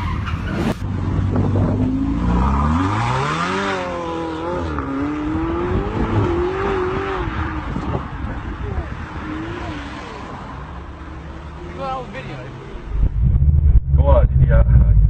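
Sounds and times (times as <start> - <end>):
car engine accelerating: 0.5 - 15.0.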